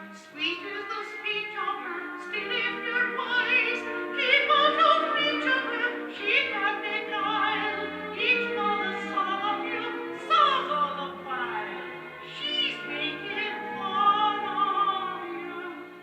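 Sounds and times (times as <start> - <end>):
symphony orchestra playing: 0.0 - 16.0.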